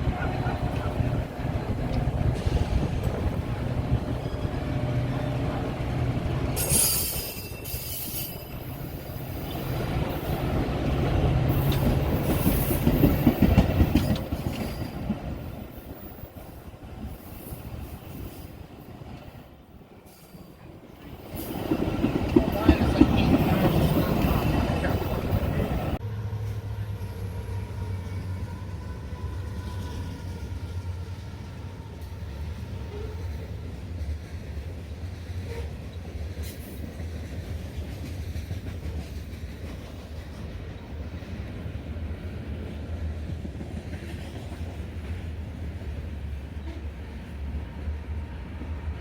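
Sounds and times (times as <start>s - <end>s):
train rumbling along rails: 0.0s - 49.0s.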